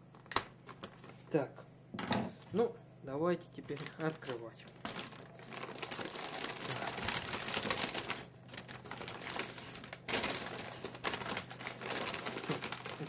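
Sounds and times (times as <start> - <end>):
paper crinkling and rustling: 0.1 - 1.3, 3.6 - 13.0.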